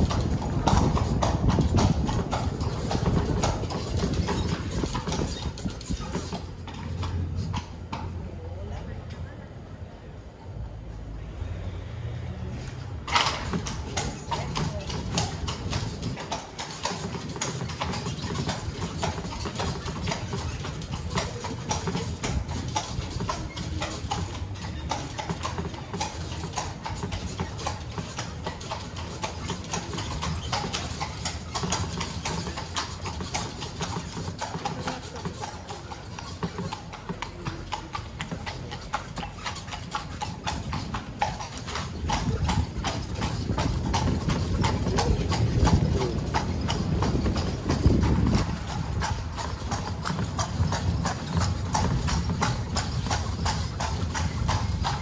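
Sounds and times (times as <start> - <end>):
hooves clip-clopping on cobblestones: 0.0 - 11.0, 12.4 - 55.0.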